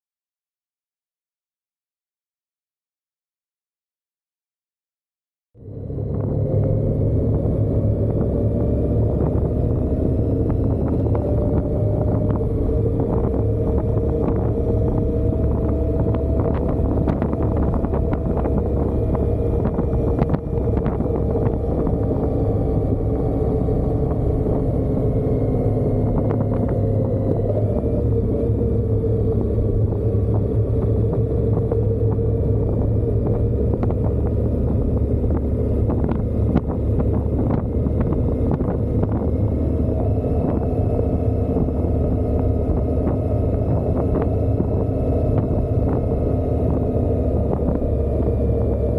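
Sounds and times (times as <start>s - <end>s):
motorcycle engine cruising: 5.6s - 48.9s
wind rushing: 5.7s - 48.9s.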